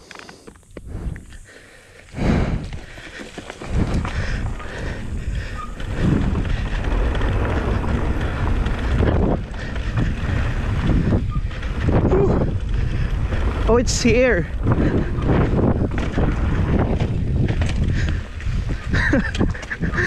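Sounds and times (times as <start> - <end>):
bike tyres rolling on dirt: 0.0 - 20.0
wind rushing over microphone: 0.8 - 1.5, 2.1 - 20.0.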